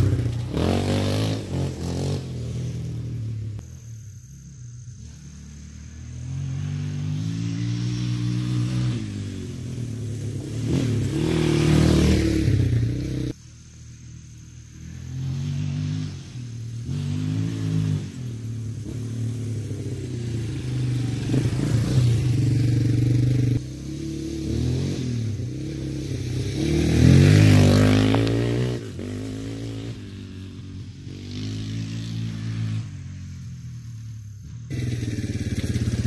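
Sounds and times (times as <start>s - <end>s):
atv engine accelerating: 0.0s - 13.4s, 14.5s - 36.0s.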